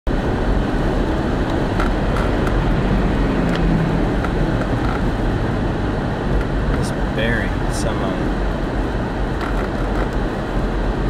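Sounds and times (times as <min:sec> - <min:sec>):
road noise: 0:00.1 - 0:11.0
wind noise: 0:00.1 - 0:11.0.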